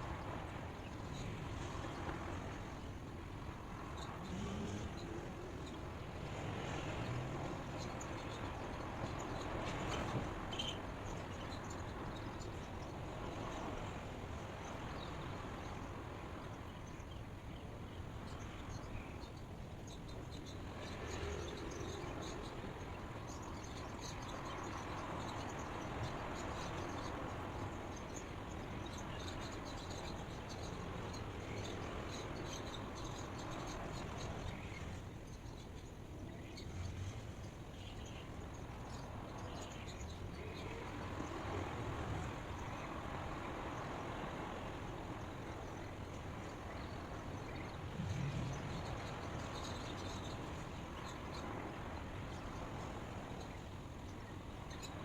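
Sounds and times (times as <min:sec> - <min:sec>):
low outdoor background noise: 0:00.0 - 0:55.0
steady ambient hiss: 0:00.0 - 0:55.0.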